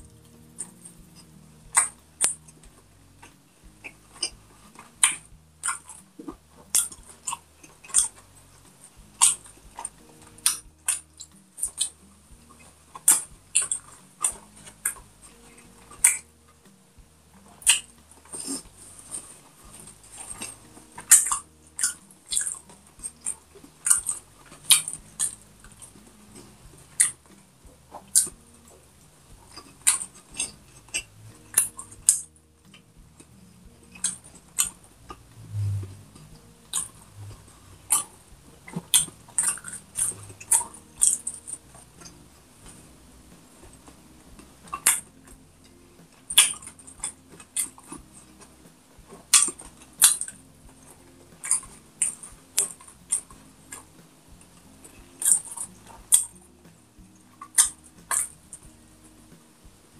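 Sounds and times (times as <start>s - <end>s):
chewing and lip-smacking: 0.6s - 16.3s, 17.5s - 34.9s, 36.4s - 42.2s, 44.4s - 56.4s, 57.4s - 58.7s.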